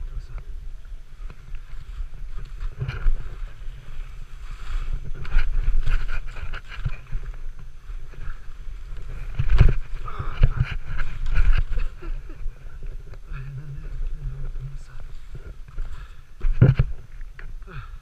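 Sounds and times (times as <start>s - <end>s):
wind buffeting microphone: 0.0s - 17.8s
skis scraping over snow: 1.1s - 17.1s.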